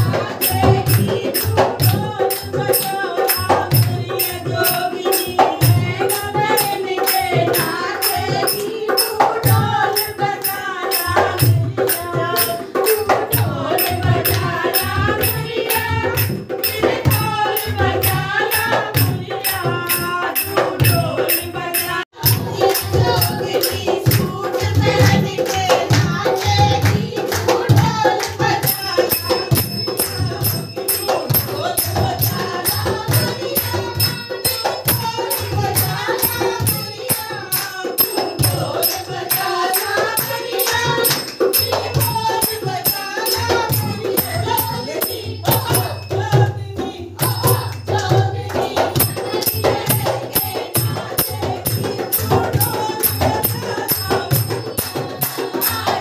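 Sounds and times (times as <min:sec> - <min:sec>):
hand drum beat: 0:00.0 - 0:56.0
jingling hand percussion: 0:00.0 - 0:56.0
voices singing: 0:00.0 - 0:56.0.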